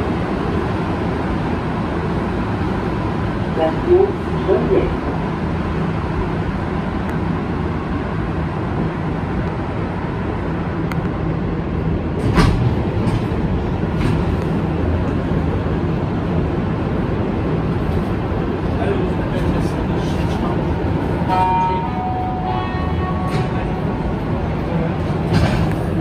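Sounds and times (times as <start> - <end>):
metro train running: 0.0 - 26.0.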